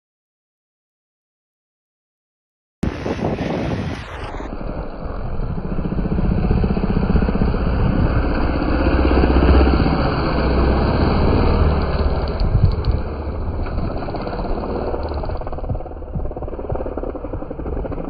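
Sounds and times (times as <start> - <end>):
motocross bike engine: 2.8 - 18.0.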